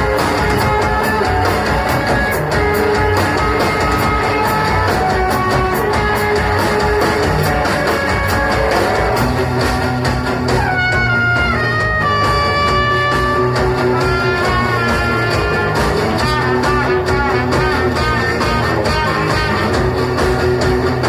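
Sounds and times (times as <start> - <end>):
drums steady beat: 0.0 - 21.0
guitars sustained notes: 0.0 - 21.0
live rock band: 0.0 - 21.0.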